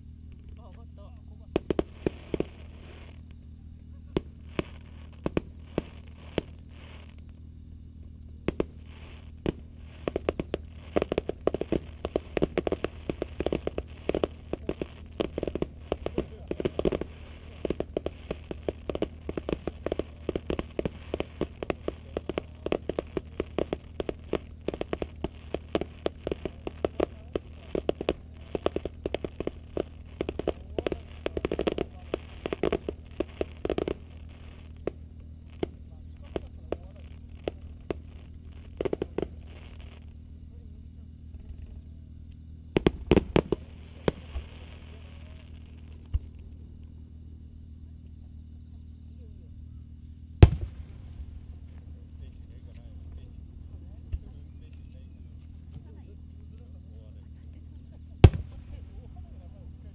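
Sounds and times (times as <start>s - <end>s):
distant fireworks pops: 0.0s - 47.4s, 50.4s - 59.9s.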